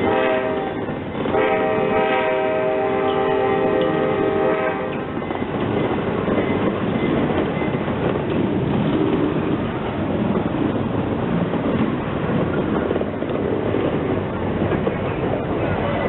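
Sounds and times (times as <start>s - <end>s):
train running on track: 0.0s - 16.0s.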